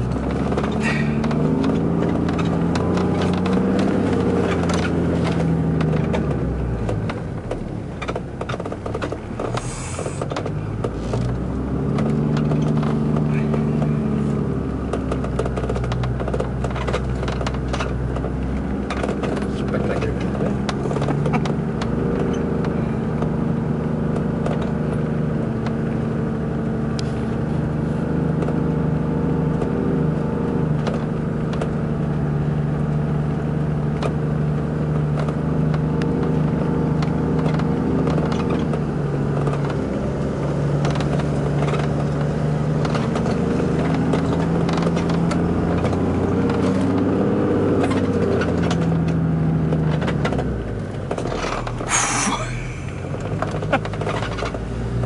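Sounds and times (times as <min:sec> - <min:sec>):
vehicle clicks and rattles: 0:00.0 - 0:55.0
vehicle engine running: 0:00.0 - 0:55.0.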